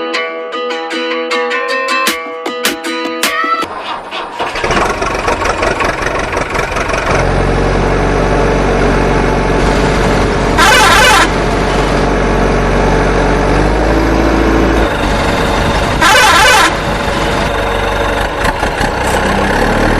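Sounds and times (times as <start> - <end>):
heavy vehicle engine rumble: 3.6 - 19.9.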